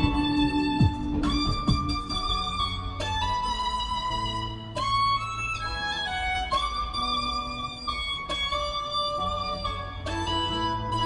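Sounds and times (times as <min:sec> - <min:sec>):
violin slow melody: 0:00.0 - 0:11.0.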